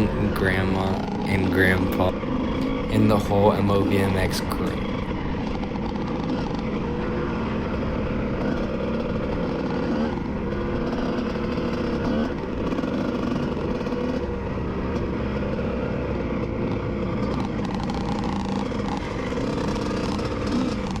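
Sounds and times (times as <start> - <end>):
motocross bike engines revving: 0.0 - 5.1, 6.2 - 21.0.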